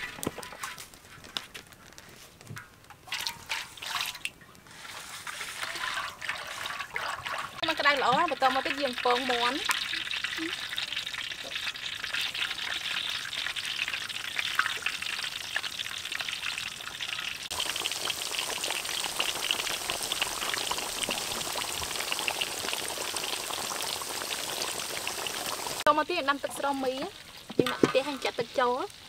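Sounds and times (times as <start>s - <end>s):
chicken deep-frying in oil: 2.6s - 29.0s.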